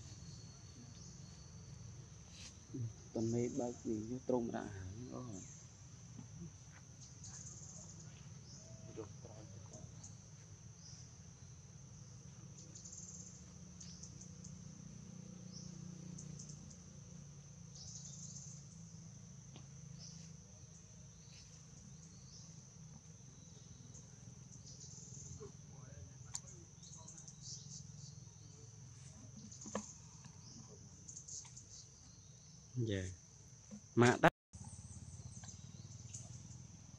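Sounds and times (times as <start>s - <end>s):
insect chorus buzzing: 0.0s - 36.9s.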